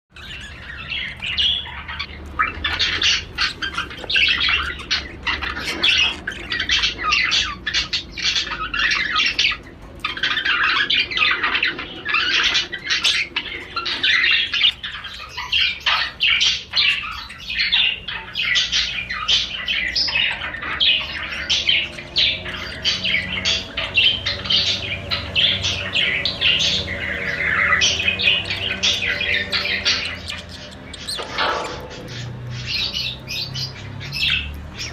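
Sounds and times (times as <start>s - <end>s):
budgerigar chattering and warbling: 0.1s - 34.9s.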